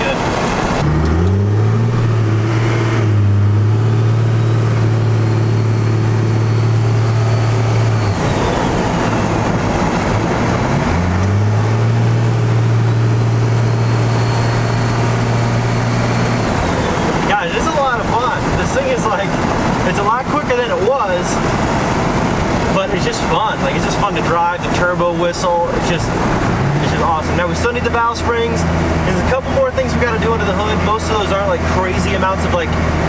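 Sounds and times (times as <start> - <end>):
diesel engine drone in cab: 0.0 - 33.0.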